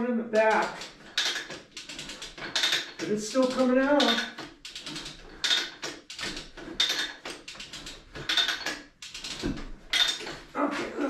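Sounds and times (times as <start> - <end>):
ratchet pawl clicking: 0.4 - 10.6.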